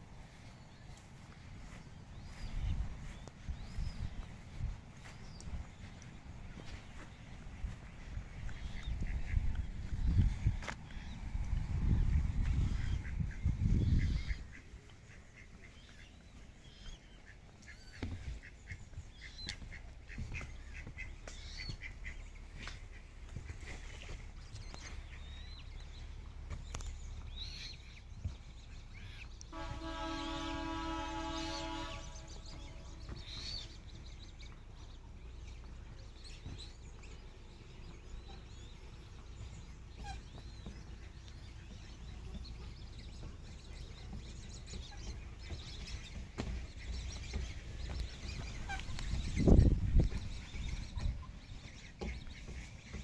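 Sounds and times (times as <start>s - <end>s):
birds calling: 0.0s - 53.0s
low outdoor rumble: 0.0s - 53.0s.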